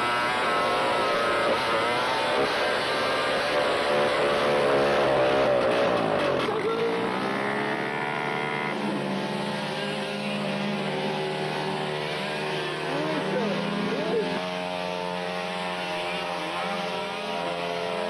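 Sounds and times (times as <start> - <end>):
dirt bike engine revving: 0.0 - 18.0
minibike engine running: 0.0 - 18.0.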